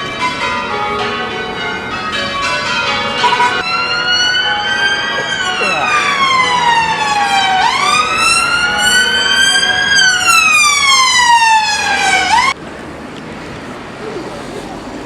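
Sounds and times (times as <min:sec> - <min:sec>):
emergency siren wailing: 0:00.0 - 0:12.6
traffic noise: 0:00.0 - 0:15.0.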